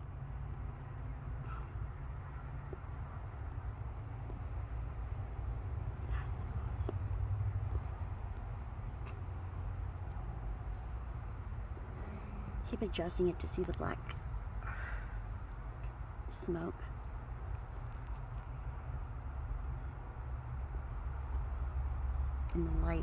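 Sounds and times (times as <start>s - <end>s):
insects trilling: 0.0s - 23.0s
low steady rumble: 0.0s - 23.0s.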